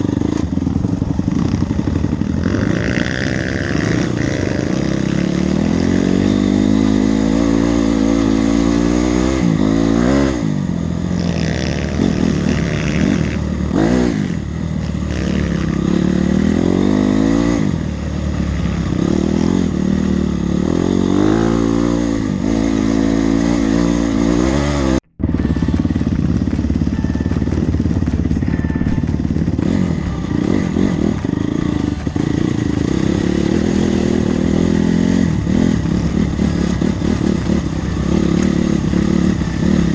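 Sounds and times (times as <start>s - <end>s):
bike clattering and scraping: 0.0s - 39.9s
trail bike engine revving: 0.0s - 39.9s.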